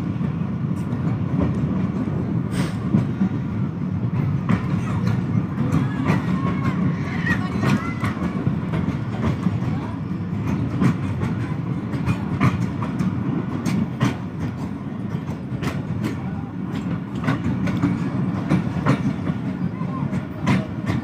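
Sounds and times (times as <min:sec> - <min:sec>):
train rumbling on track: 0:00.0 - 0:21.0
wheels clicking on rail joints: 0:00.1 - 0:21.0.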